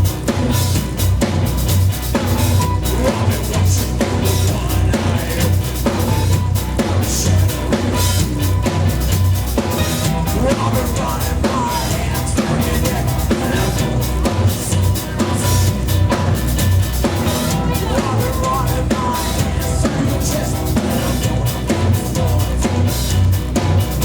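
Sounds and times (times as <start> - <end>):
heavy bass lines: 0.0 - 24.0
live band playing: 0.0 - 24.0.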